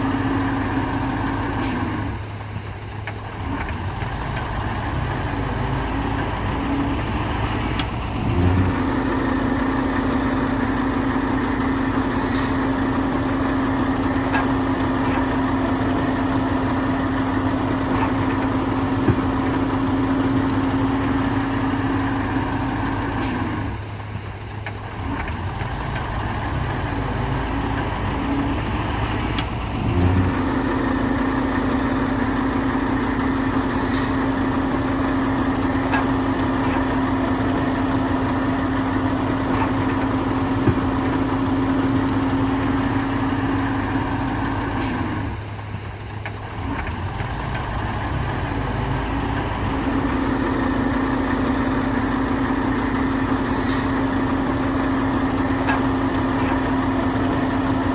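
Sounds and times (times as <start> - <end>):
bulldozer diesel engine running: 0.0 - 57.9.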